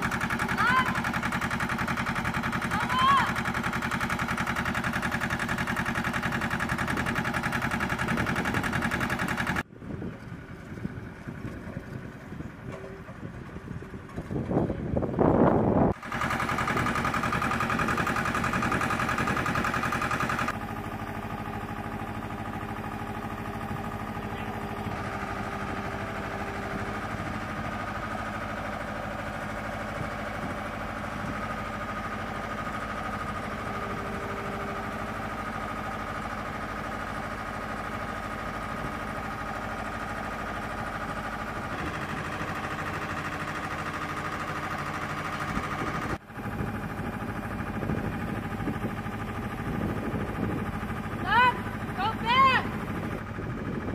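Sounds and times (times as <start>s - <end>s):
engine idling with steady hum: 0.0s - 53.9s.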